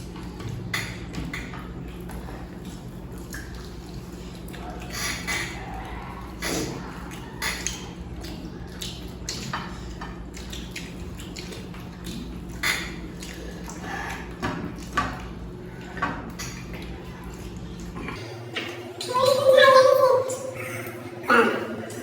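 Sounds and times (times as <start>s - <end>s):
clicks and taps of eating from plates: 0.0s - 19.4s
steady low hum: 0.0s - 22.0s.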